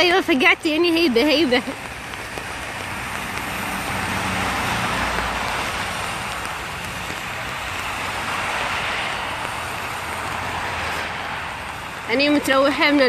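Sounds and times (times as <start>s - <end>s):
tyres hissing on wet road: 0.0s - 13.0s
vehicle engine hum: 0.0s - 13.0s.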